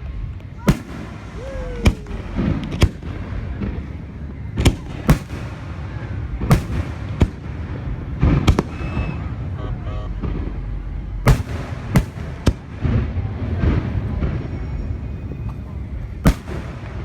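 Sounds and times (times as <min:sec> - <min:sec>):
continuous low rumble: 0:00.0 - 0:17.0
fireworks booming: 0:00.0 - 0:17.0.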